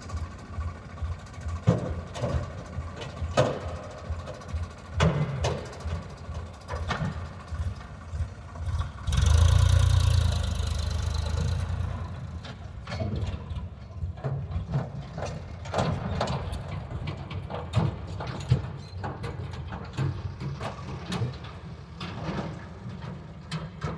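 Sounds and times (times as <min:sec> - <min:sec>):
knocks and clatters: 0:00.0 - 0:23.9
tractor engine running: 0:00.0 - 0:23.9.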